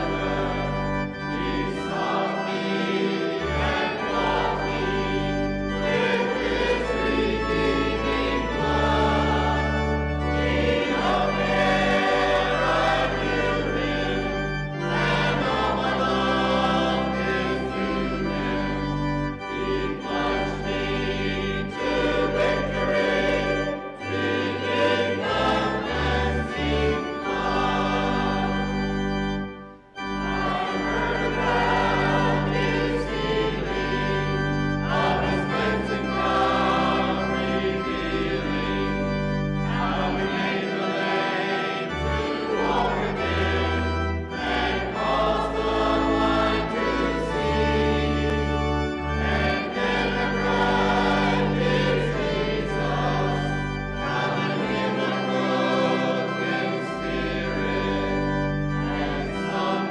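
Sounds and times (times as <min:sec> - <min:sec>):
congregation and choir singing hymn: 0:00.0 - 0:59.9
instrumental accompaniment: 0:00.0 - 0:59.9.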